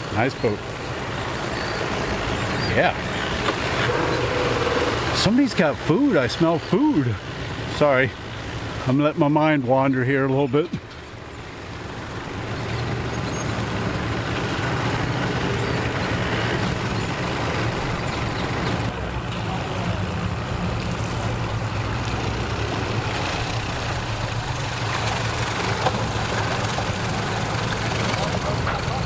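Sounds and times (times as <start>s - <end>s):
outboard motor humming: 0.0s - 29.0s.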